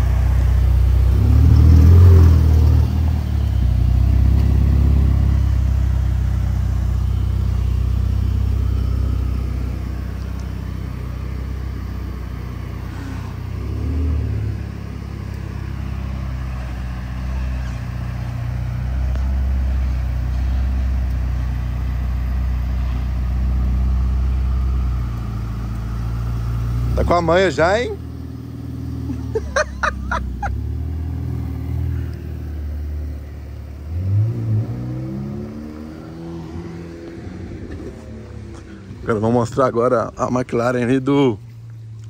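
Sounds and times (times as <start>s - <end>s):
car engine low rumble: 0.0s - 42.0s.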